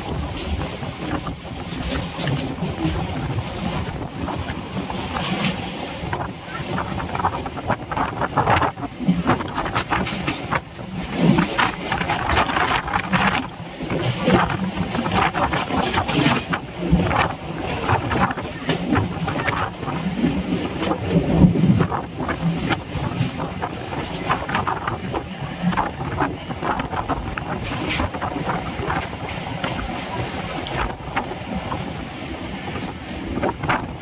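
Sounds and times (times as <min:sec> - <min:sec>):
train clicks and rattles: 0:00.0 - 0:34.0
train rumbling on rails: 0:00.0 - 0:34.0.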